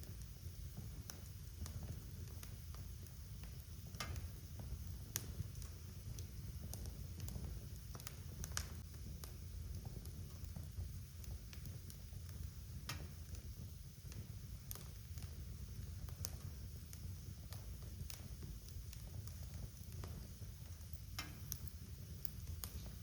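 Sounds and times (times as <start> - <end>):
low rumble of flames: 0.0 - 23.0
sharp fire pops: 0.0 - 23.0
wood fire crackling: 0.0 - 23.0.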